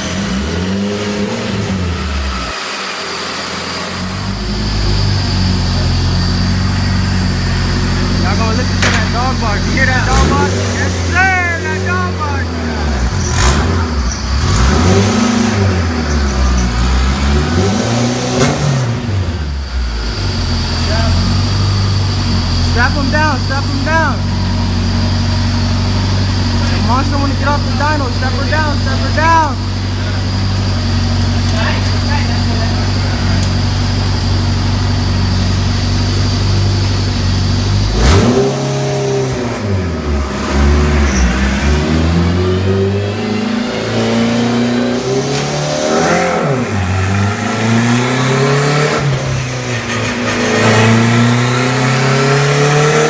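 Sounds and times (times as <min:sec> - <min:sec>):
car engine revving: 0:00.0 - 0:53.0
exhaust crack: 0:04.4 - 0:52.9.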